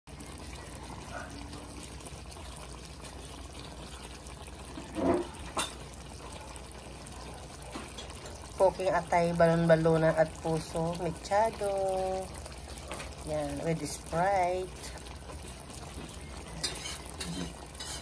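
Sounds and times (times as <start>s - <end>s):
sauce simmering and bubbling: 0.1s - 18.0s.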